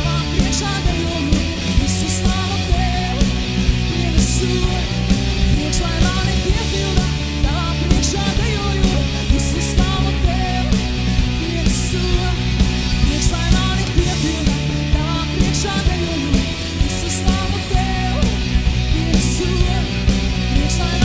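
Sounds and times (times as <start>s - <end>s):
woman singing into microphone: 0.0s - 3.2s, 3.9s - 10.7s, 13.0s - 20.0s
drums with cymbal crashes: 0.0s - 21.0s
electric guitar: 0.0s - 21.0s.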